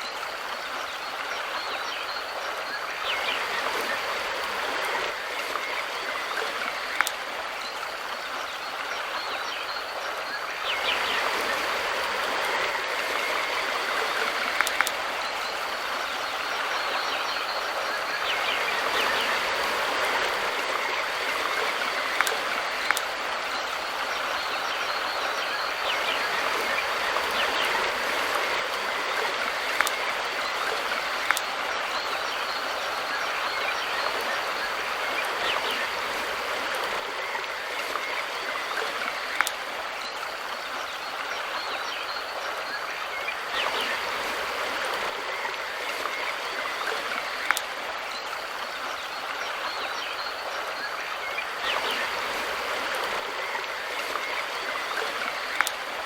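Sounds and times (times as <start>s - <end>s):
river rushing: 0.0s - 56.0s
water splashing: 0.0s - 56.0s.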